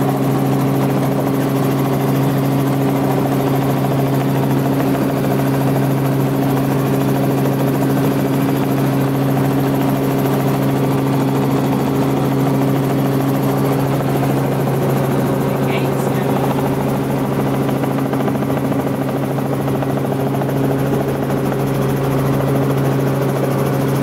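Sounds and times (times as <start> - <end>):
helicopter engine and rotors drone: 0.0 - 24.0.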